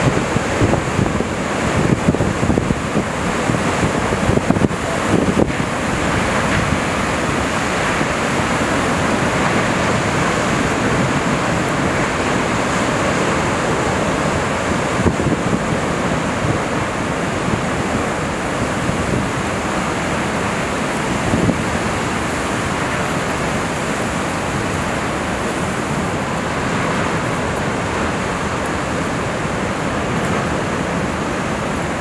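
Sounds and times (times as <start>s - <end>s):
surf breaking on rocky shore: 0.0s - 32.0s.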